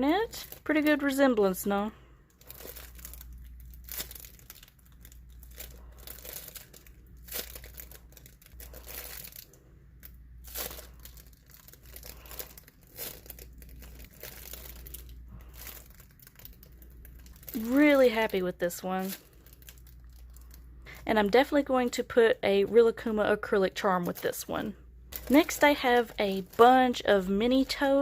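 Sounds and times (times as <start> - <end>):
foam squishy crinkling: 0.0 - 28.0.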